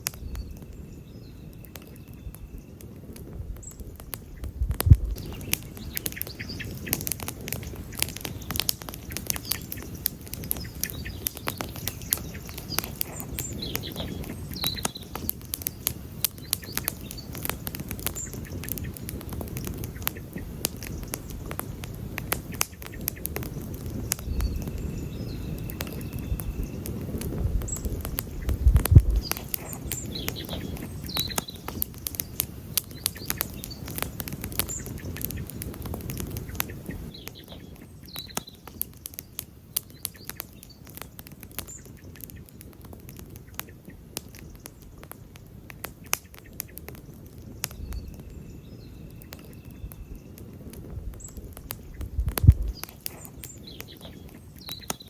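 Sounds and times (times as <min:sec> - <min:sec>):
faint bird chirps: 0:00.0 - 0:03.0, 0:03.6 - 0:45.4, 0:46.0 - 0:55.0
campfire crackling: 0:00.0 - 0:55.0.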